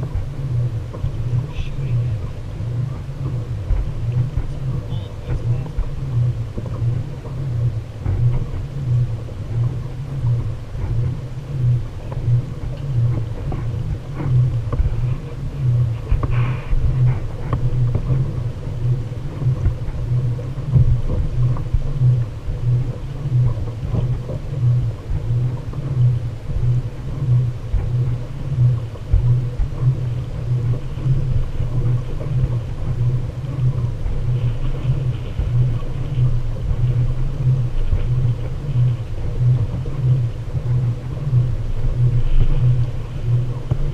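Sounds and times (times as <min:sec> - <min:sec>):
dull low thumps: 0:00.0 - 0:43.9
faint ticks: 0:00.0 - 0:43.9
water moving against kayak hull: 0:00.0 - 0:43.9
wind buffeting microphone: 0:00.0 - 0:43.9.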